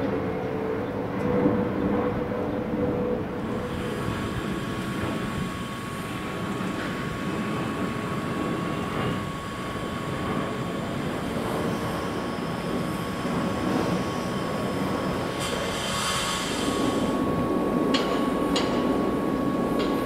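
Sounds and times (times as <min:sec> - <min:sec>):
steam hissing from locomotive: 0:03.4 - 0:20.0.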